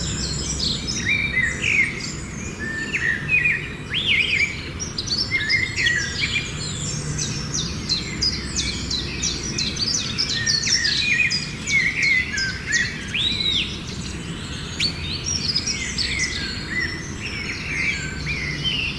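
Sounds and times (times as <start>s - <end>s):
songbirds chirping and whistling: 0.0s - 18.9s.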